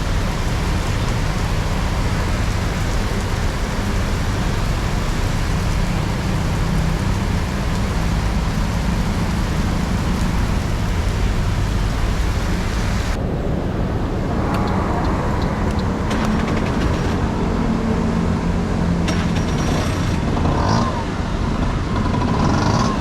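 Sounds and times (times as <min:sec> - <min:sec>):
heavy rain hiss: 0:00.0 - 0:21.6.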